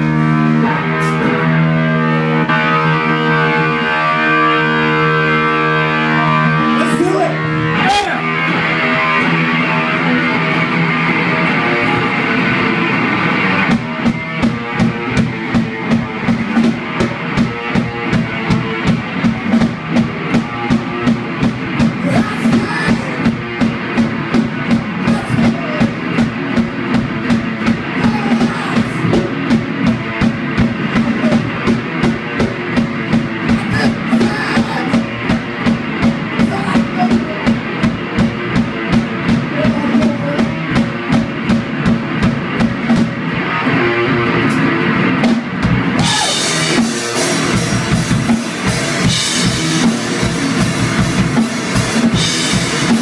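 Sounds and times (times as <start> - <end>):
drum kit beat: 0.0 - 53.0
electric guitar riff: 0.0 - 53.0.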